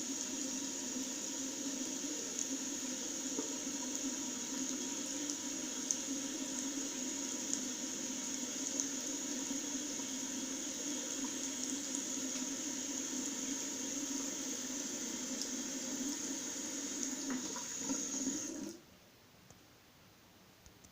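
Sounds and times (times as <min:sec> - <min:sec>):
tap water running into basin: 0:00.0 - 0:18.8.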